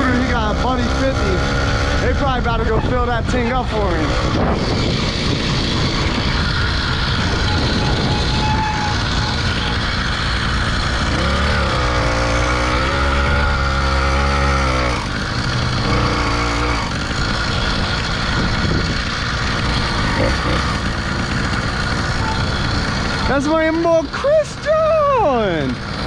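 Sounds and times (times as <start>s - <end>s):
wind rushing over microphone: 0.0s - 23.4s
small motorbike engine: 0.0s - 26.0s.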